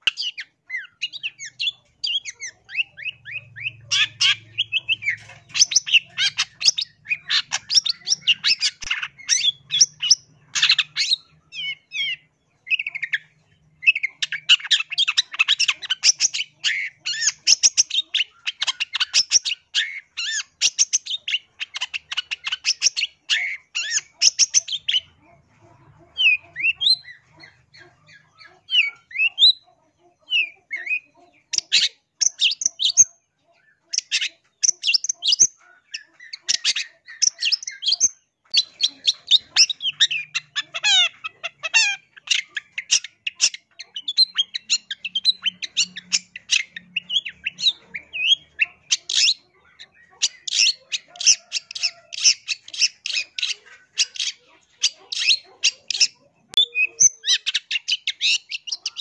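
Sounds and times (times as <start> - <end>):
bird harsh chattering: 0.0 - 59.0.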